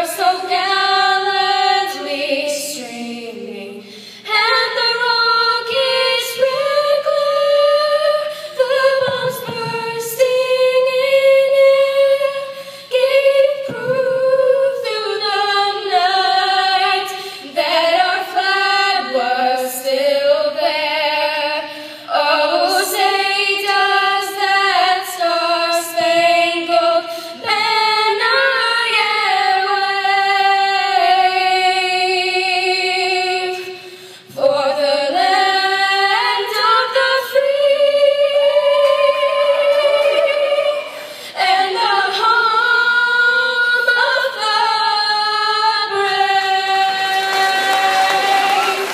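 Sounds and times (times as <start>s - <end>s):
girls singing unaccompanied: 0.0s - 48.9s.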